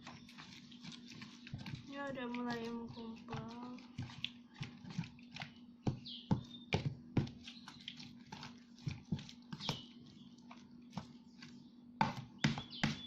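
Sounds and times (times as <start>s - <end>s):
slime squelching in a bowl: 0.0s - 13.0s.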